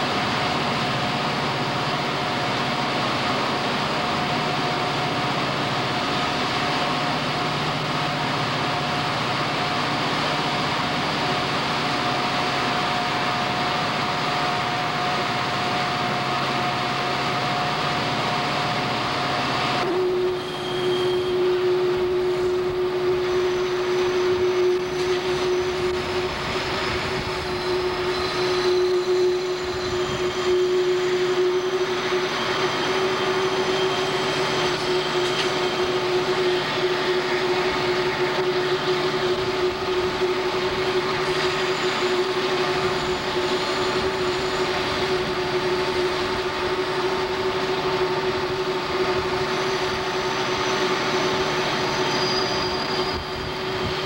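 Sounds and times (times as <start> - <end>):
faint high wheel squeals: 0.0 - 54.0
locomotive engine drone: 0.0 - 54.0
train wheels on rails: 0.0 - 54.0.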